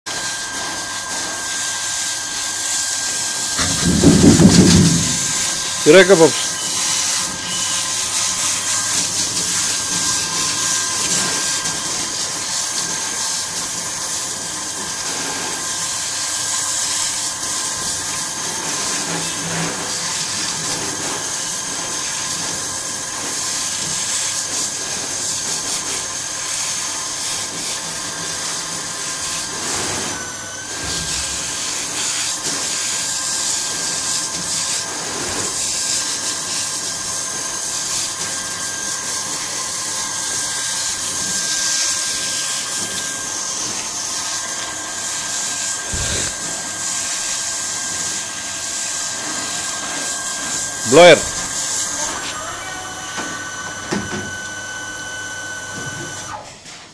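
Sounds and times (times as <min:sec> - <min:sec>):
dog-wash machine hiss and whine: 0:00.1 - 0:56.9.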